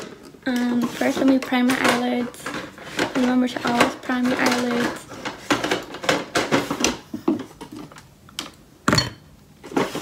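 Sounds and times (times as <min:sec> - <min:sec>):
makeup items clicking and knocking: 0:00.0 - 0:08.6.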